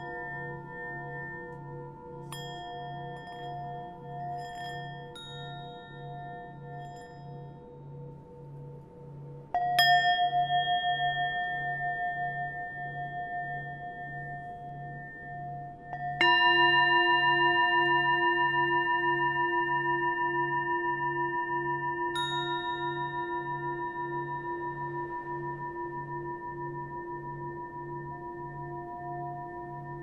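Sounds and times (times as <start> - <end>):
singing bowl tones ringing: 0.0 - 30.0.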